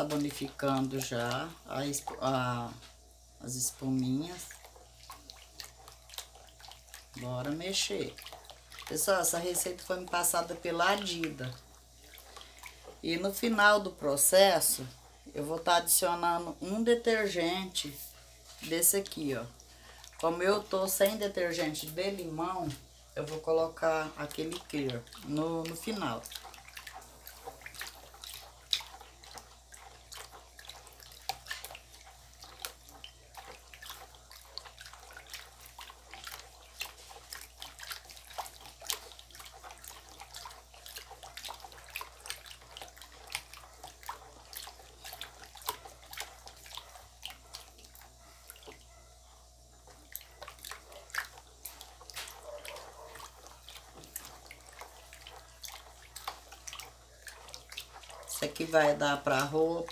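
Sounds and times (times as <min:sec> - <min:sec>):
wet sloshing of stirred mixture: 0:00.0 - 0:59.9.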